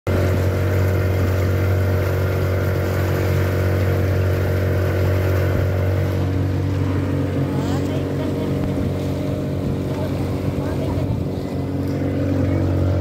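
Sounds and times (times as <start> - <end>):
boat engine humming: 0.1 - 13.0
water splashing along hull: 0.1 - 13.0.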